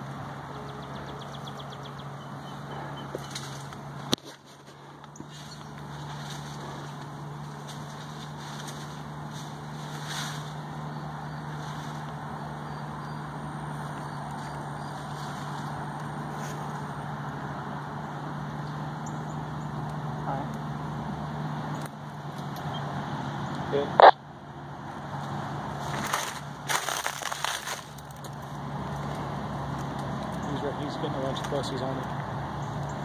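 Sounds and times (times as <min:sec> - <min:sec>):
low motor hum: 0:00.0 - 0:33.0.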